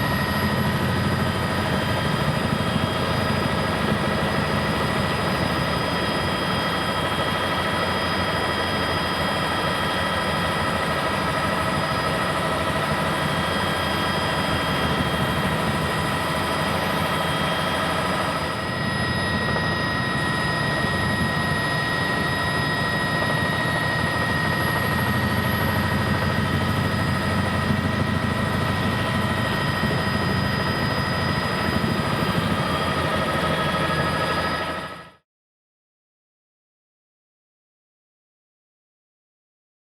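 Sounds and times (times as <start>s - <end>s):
helicopter rotor beat: 0.0s - 35.2s
helicopter turbine whine: 0.0s - 35.2s.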